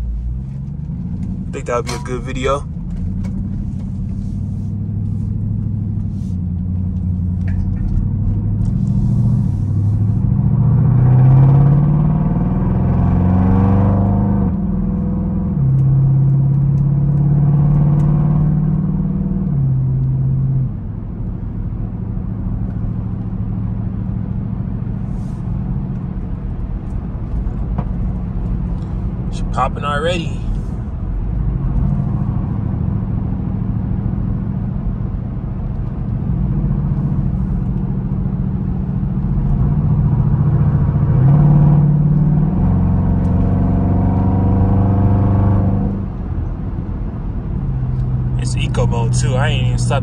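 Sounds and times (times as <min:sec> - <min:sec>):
car engine accelerating through gears: 0:00.0 - 0:50.0.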